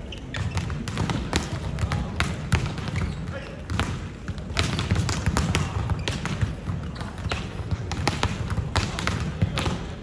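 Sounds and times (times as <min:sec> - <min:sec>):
volleyballs being struck: 0:00.2 - 0:10.0.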